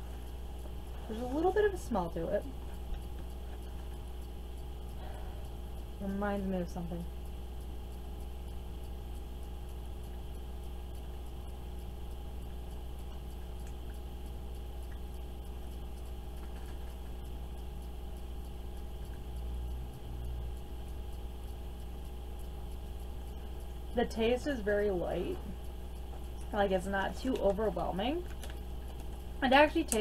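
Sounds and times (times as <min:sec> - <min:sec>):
low room hum: 0:00.0 - 0:30.0
faint ticks: 0:00.2 - 0:30.0.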